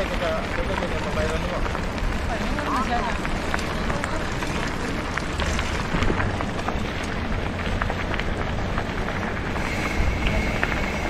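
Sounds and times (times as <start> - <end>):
tyres rolling on dirt: 0.0 - 11.0.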